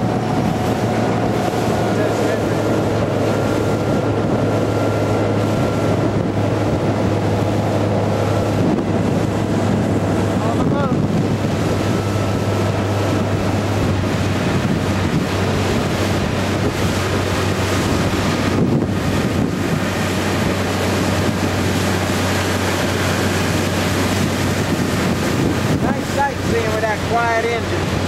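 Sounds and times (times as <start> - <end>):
outboard motor humming: 0.0 - 28.0
water noise: 0.0 - 28.0
wind buffeting microphone: 0.0 - 28.0.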